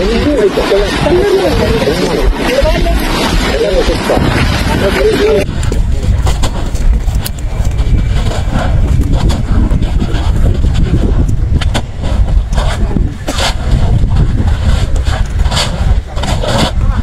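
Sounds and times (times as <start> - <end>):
lava crackling bursts: 0.0 - 17.0
lava vent rumbling: 0.0 - 17.0.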